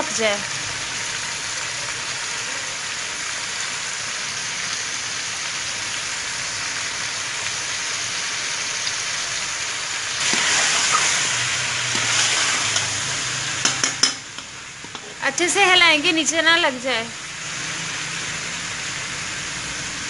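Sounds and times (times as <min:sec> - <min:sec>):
chicken frying in oil: 0:00.0 - 0:20.0.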